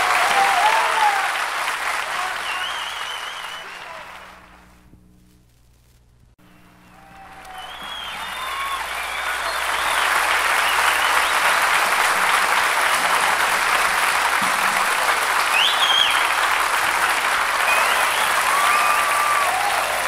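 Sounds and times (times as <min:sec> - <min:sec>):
high calls from crowd: 0:00.0 - 0:04.6, 0:06.6 - 0:20.0
audience applauding: 0:00.0 - 0:04.8, 0:06.8 - 0:20.0.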